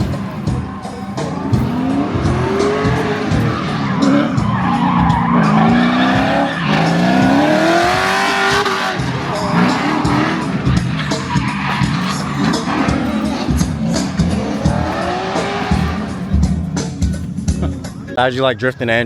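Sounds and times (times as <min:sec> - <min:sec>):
car engine revving: 0:00.0 - 0:18.2
tyres squealing: 0:00.0 - 0:18.2
background music: 0:00.0 - 0:19.0.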